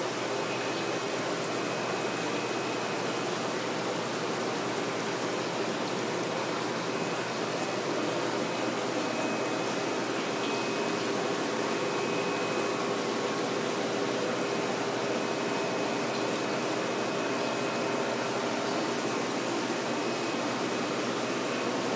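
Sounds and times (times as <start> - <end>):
faint pump hum: 0.0 - 21.9
water pouring into tanks: 0.0 - 21.9
water rushing through pipes: 0.0 - 21.9.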